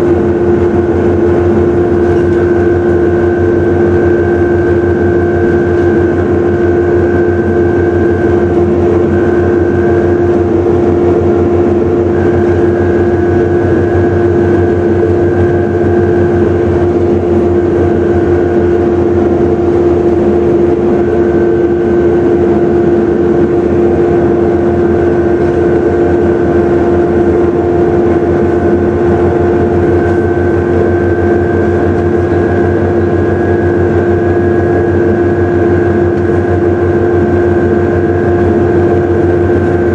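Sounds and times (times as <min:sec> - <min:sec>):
bus diesel engine running: 0:00.0 - 0:39.9
higher whine: 0:00.0 - 0:39.9
loud constant whine: 0:00.0 - 0:39.9.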